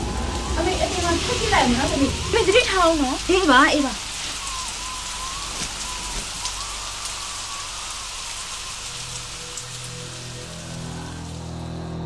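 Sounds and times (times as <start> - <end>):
rain hiss and drop patter: 0.0 - 11.6
faint wavering whistle: 0.0 - 11.7
low held music notes: 0.0 - 12.0.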